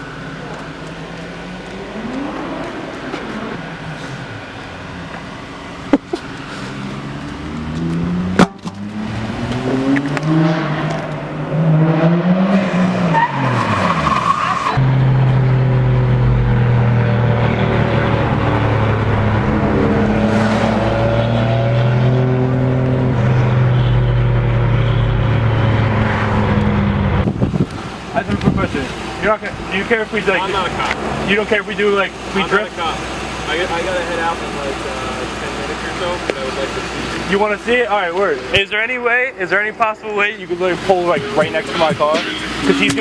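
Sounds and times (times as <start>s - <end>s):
car engine revving: 0.0s - 38.5s.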